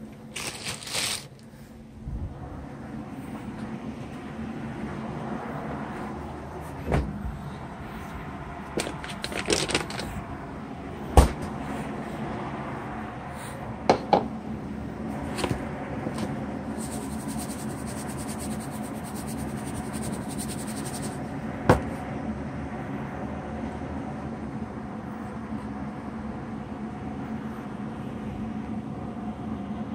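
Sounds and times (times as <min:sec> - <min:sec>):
refrigerator hum: 0:00.0 - 0:29.9.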